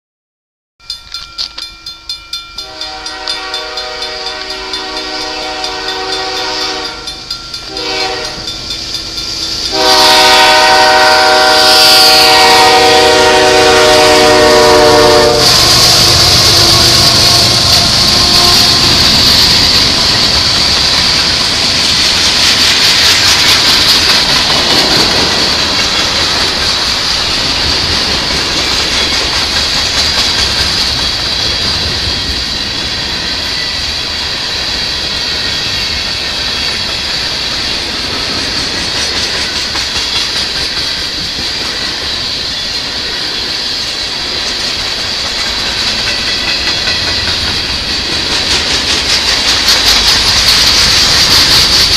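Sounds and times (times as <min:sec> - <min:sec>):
freight train wheels clacking: 0:00.8 - 0:51.9.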